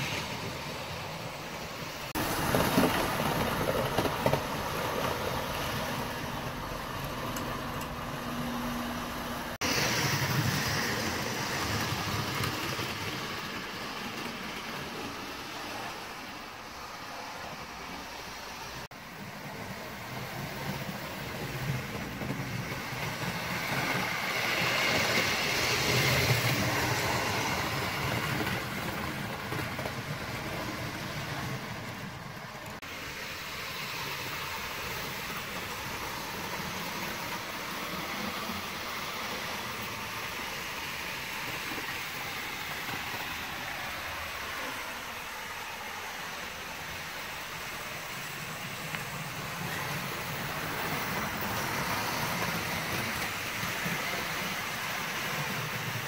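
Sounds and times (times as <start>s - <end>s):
wheels rattling on rails: 0.0s - 56.0s.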